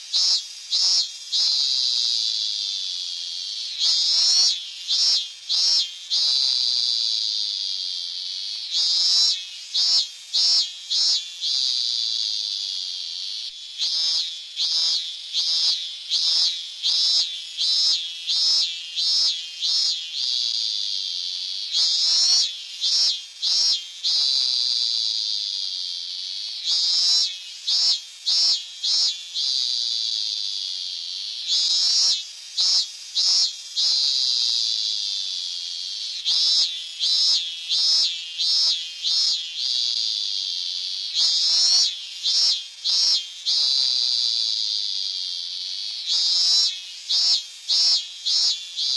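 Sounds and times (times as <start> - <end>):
cicada singing: 0.0 - 48.9.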